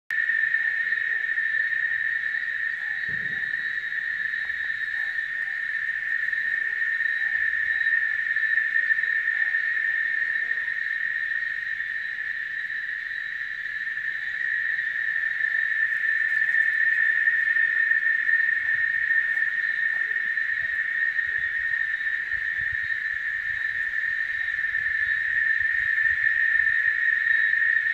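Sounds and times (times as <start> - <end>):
cicadas droning: 0.1 - 27.9.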